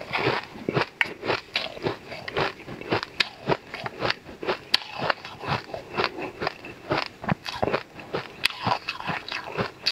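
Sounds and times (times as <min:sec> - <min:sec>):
chewing crushed ice: 0:00.0 - 0:09.9.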